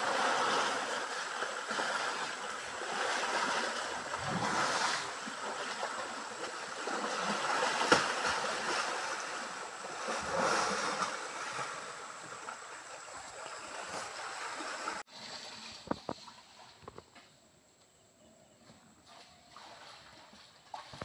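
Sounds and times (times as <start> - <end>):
water churning and splashing: 0.0 - 16.8, 19.4 - 21.0.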